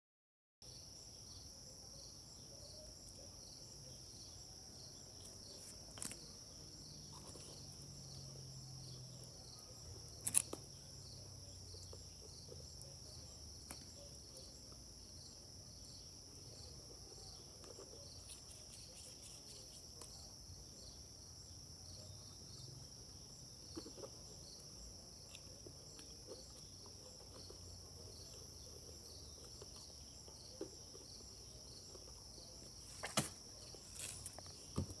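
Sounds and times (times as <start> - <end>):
insects trilling: 0.7 - 35.0.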